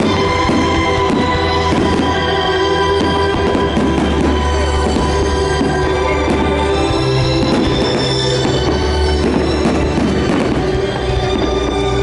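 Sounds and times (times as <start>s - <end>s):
faint fireworks bangs: 0.0s - 12.0s
orchestral music with drums: 0.0s - 12.0s.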